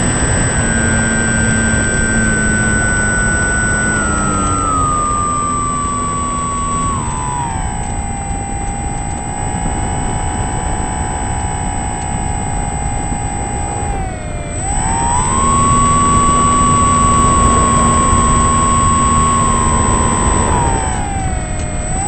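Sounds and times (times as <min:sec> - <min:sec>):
motor whining: 0:00.0 - 0:22.0.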